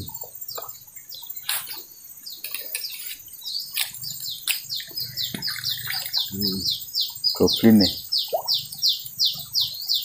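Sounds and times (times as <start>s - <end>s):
insect hiss: 0.0s - 10.0s.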